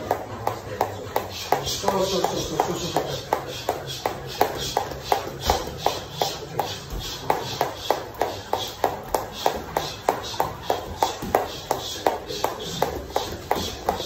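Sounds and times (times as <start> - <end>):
jump rope slapping floor: 0.0 - 14.0.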